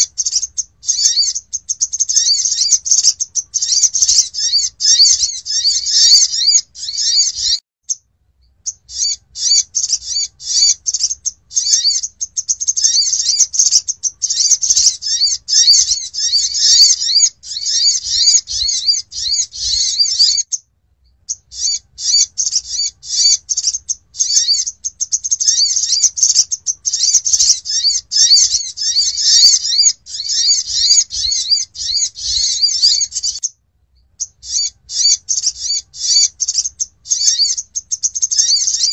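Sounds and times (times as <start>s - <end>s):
sunbird chattering chirps: 0.0s - 38.9s.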